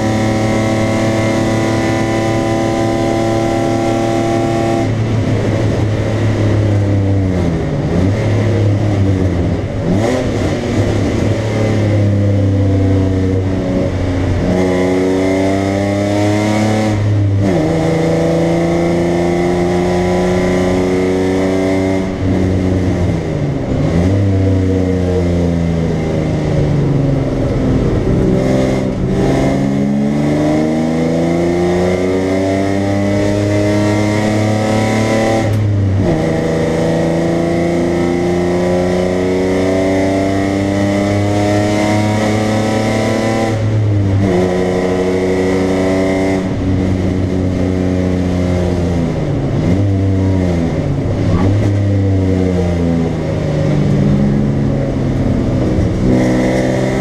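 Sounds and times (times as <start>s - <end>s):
car engine revving from cabin: 0.0s - 5.2s, 6.8s - 57.0s.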